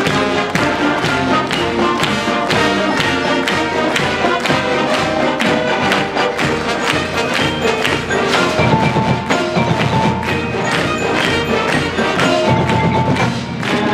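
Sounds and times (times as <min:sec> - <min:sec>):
marching band playing: 0:00.0 - 0:13.9
percussion hits: 0:00.0 - 0:13.9.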